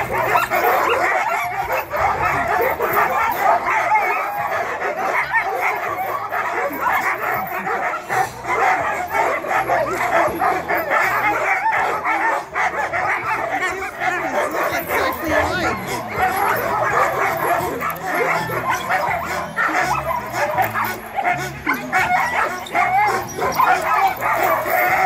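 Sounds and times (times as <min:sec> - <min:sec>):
sled dogs yipping and barking: 0:00.0 - 0:25.0.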